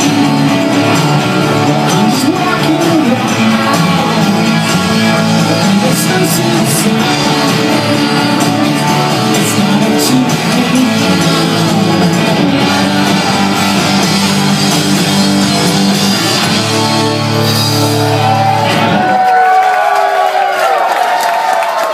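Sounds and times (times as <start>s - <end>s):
rock band playing live: 0.0s - 19.7s.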